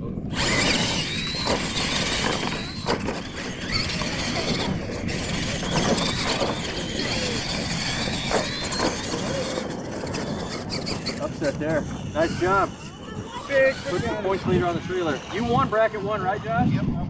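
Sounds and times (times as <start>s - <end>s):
electric motors whining: 0.2s - 17.0s
tyres rumbling over dirt: 0.3s - 16.1s.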